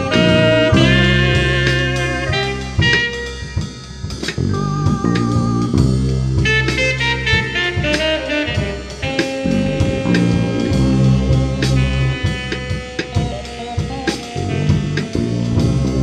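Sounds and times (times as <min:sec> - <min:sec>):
lo-fi music with drum beat: 0:00.0 - 0:16.0.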